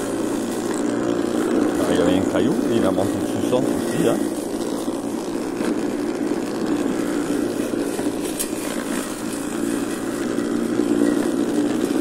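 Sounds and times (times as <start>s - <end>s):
robot mower motor humming: 0.0s - 12.0s.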